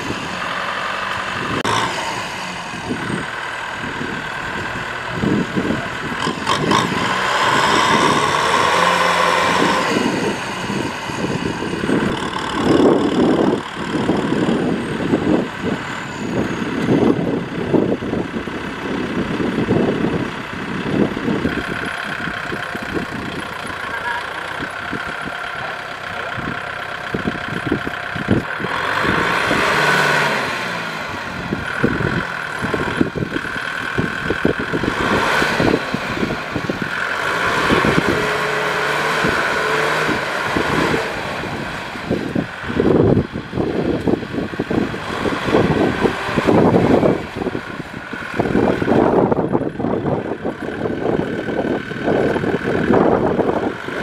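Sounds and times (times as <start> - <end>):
tractor diesel engine straining: 0.0 - 54.0.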